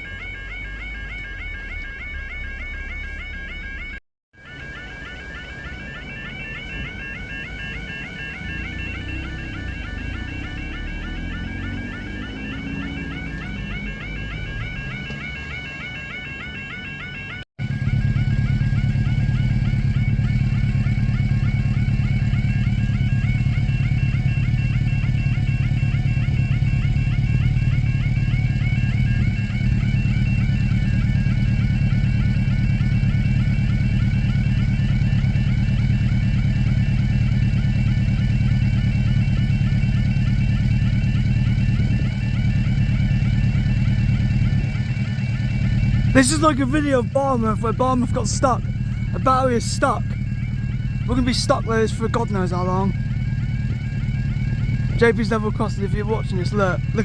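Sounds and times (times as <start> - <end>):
level crossing alarm warbling: 0.0 - 57.0
vehicle engine humming: 0.0 - 57.0.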